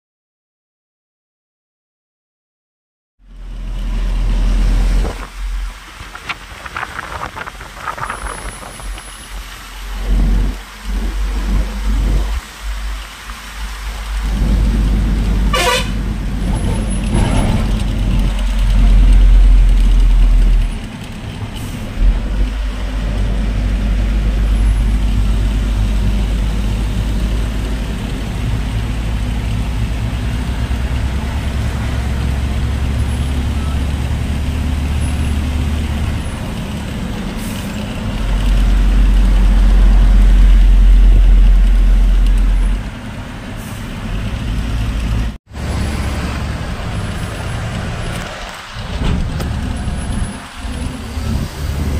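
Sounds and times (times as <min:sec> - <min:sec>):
truck engine and road rumble: 0:03.2 - 0:51.9.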